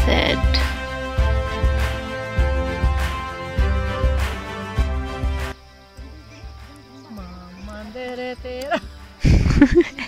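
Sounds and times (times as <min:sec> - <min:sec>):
background music with steady low beat: 0:00.0 - 0:10.0.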